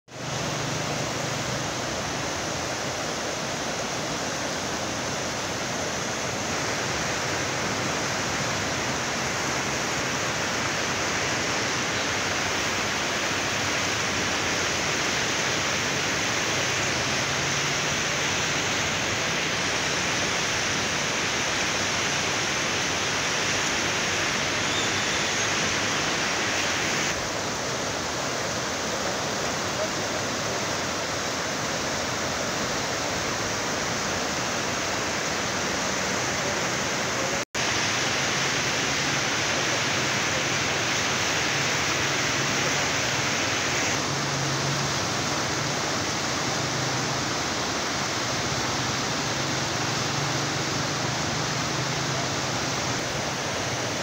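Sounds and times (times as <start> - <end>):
river rushing: 0.1 - 54.0.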